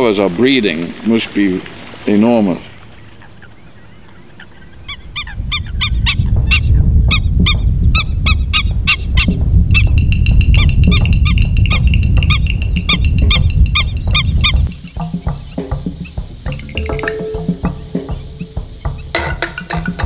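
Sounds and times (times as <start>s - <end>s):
birds yelping calls: 0.0s - 20.0s.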